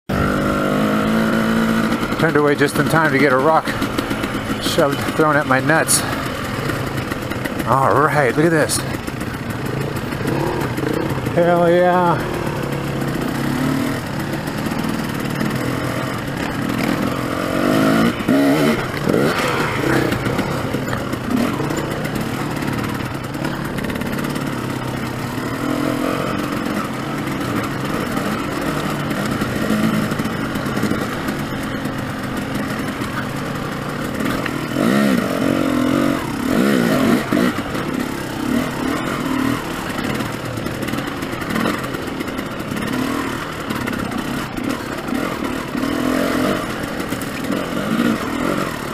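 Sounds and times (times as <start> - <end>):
dirt bike engine revving: 0.1 - 48.9.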